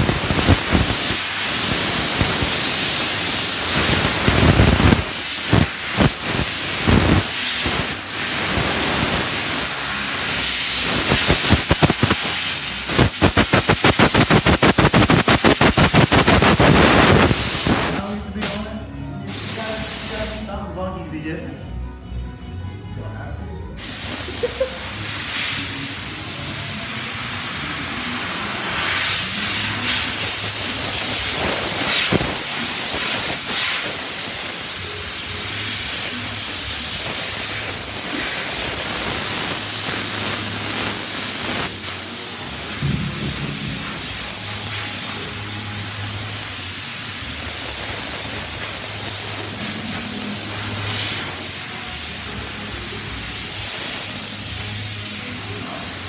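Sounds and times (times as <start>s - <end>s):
steady hiss: 0.0s - 20.6s, 23.8s - 56.0s.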